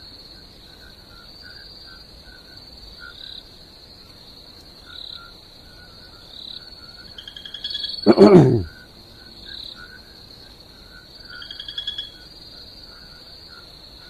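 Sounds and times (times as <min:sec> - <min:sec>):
frogs chirping: 0:00.0 - 0:14.0
insects chirping: 0:00.0 - 0:14.0.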